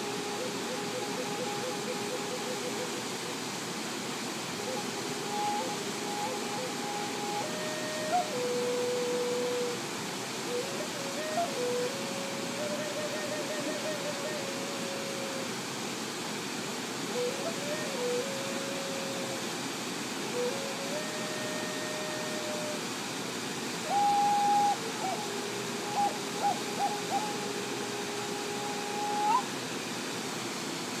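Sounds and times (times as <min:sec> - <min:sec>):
flute melody: 0:00.0 - 0:03.3, 0:04.6 - 0:15.5, 0:17.1 - 0:19.5, 0:20.2 - 0:22.8, 0:23.8 - 0:29.5
waterfall: 0:00.0 - 0:31.0.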